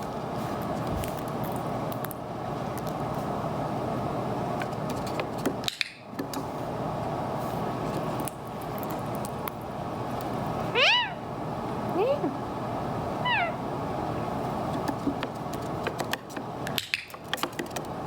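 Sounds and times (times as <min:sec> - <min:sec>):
fan-like room noise: 0:00.0 - 0:18.0.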